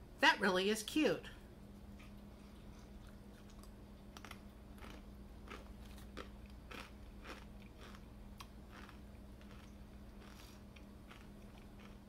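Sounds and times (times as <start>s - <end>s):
crunchy cookie being chewed: 1.9s - 12.0s.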